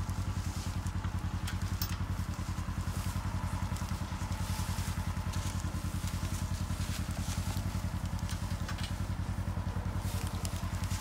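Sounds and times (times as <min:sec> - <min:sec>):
utility vehicle engine idling: 0:00.0 - 0:11.0.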